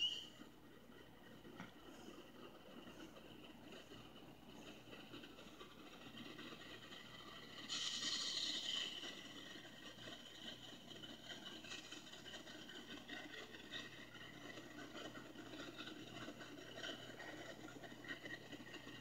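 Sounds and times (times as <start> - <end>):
faint diesel locomotives passing: 0.0 - 19.0.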